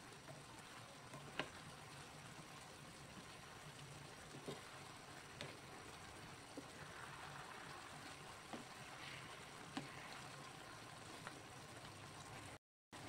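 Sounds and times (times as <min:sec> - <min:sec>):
sauce bubbling in a pan: 0:00.0 - 0:13.0.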